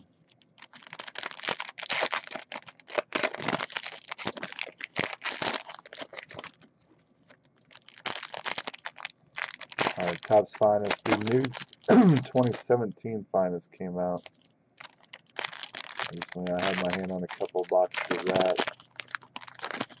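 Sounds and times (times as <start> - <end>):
foil wrappers tearing and crinkling: 0.2 - 12.6, 14.2 - 20.0.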